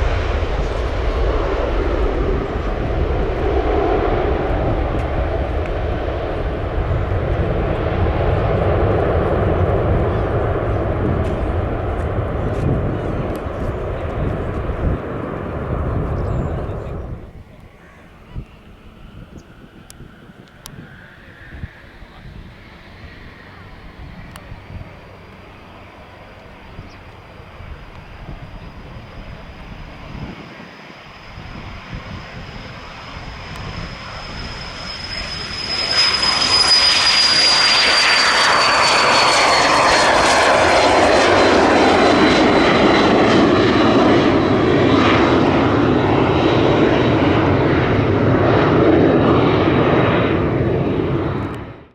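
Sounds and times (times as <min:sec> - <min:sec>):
jet engine roar: 0:00.0 - 0:51.9
jet engine whine: 0:00.0 - 0:51.9.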